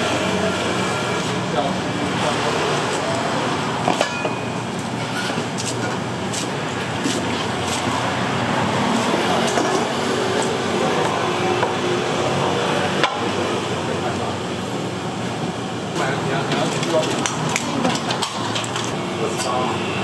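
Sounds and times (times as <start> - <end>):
street food stall hiss: 0.0 - 20.0.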